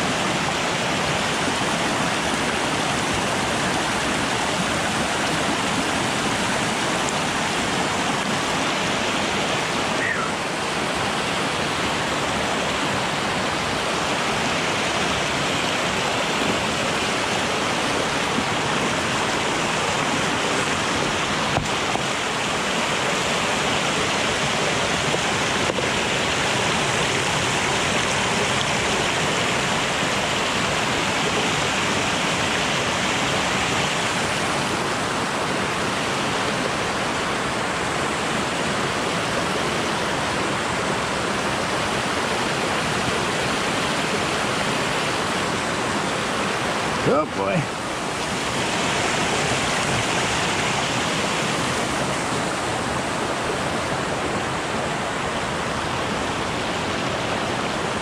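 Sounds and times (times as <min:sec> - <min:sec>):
creek water rushing: 0:00.0 - 0:58.0.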